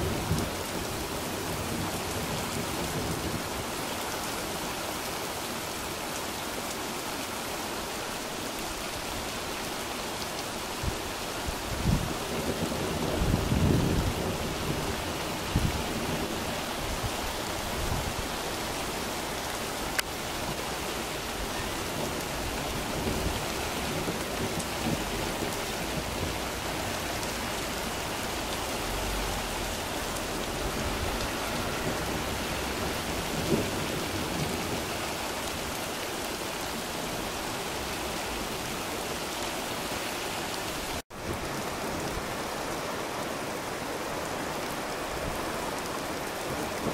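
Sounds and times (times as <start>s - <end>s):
heavy rain on road: 0.0s - 46.9s.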